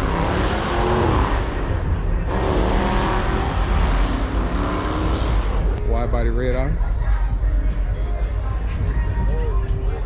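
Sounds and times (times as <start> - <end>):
deep rumble of engines running: 0.0 - 10.0.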